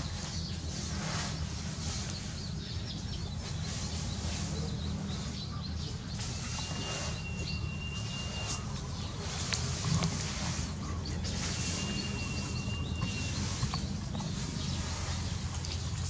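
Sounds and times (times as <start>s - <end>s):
faint bird chirps: 0.0s - 9.3s, 10.7s - 15.9s
outdoor background noise: 0.0s - 16.0s.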